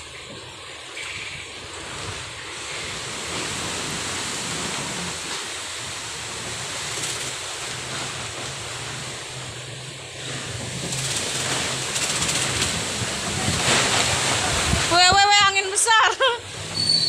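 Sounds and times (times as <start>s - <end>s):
gusty wind buffeting microphone: 0.0s - 16.8s.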